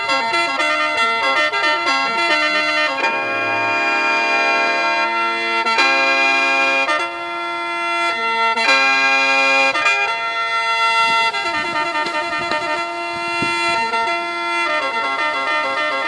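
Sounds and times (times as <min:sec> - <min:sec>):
instrumental music of held chords: 0:00.0 - 0:16.0.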